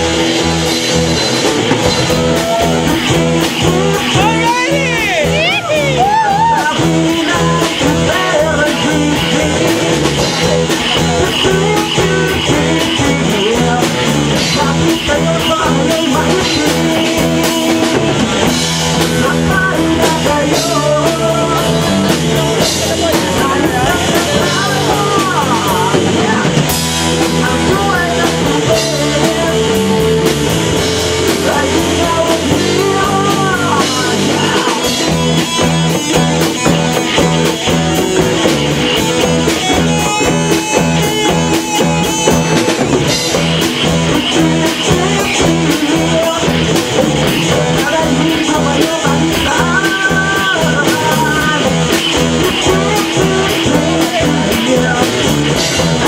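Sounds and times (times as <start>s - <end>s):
rock music: 0.0s - 56.0s.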